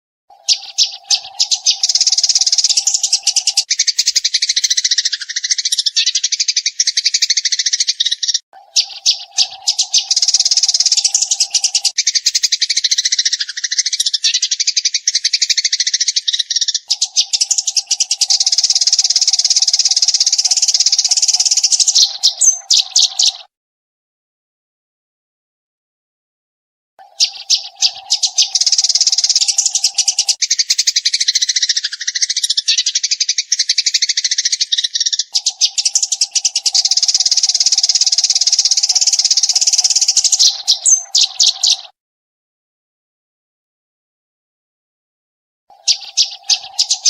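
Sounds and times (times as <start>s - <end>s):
sparrow chattering chirps: 0.3s - 23.5s, 27.0s - 42.0s, 45.7s - 47.0s.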